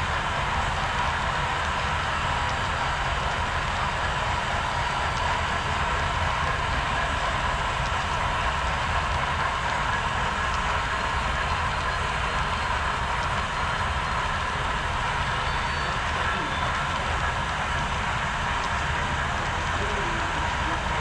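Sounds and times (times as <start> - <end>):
model train rolling hum: 0.0 - 21.0.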